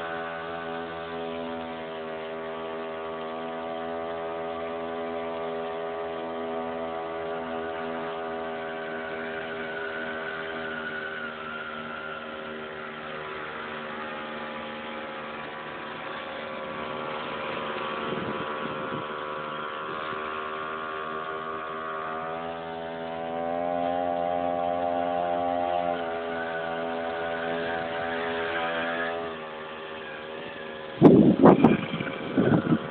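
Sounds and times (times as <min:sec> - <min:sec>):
electric skateboard motor droning: 0:00.0 - 0:32.9.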